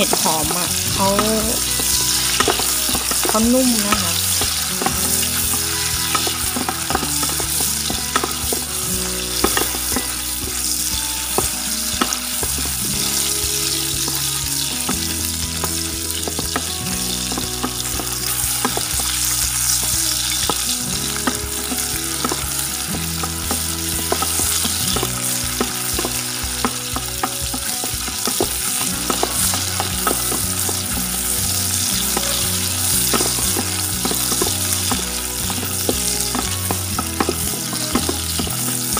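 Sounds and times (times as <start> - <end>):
food sizzling in hot oil: 0.0 - 38.9
spatula scraping a pan: 1.6 - 38.9.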